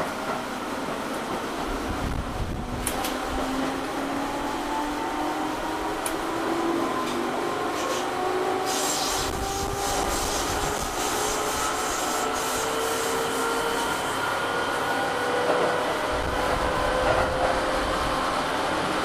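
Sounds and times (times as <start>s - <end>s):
train wheel rumble and hiss: 0.0s - 19.0s.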